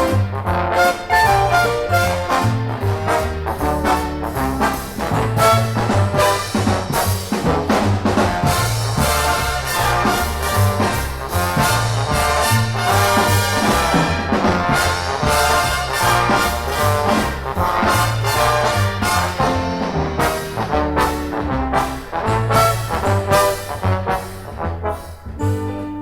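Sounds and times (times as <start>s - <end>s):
big band jazz: 0.0s - 26.0s.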